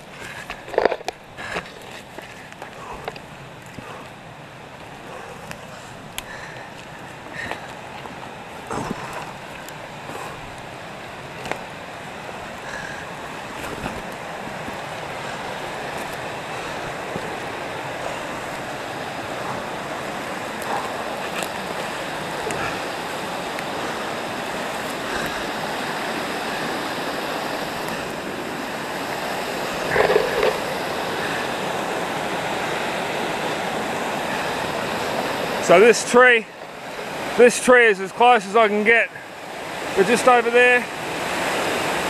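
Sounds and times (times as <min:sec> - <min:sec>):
creek rushing over rocks: 0:00.0 - 0:42.0.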